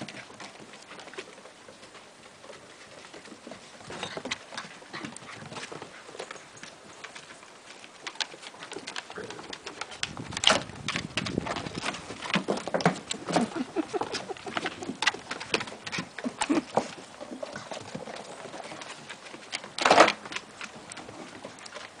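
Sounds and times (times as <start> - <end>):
paws scrabbling on wooden deck: 0.0 - 22.0.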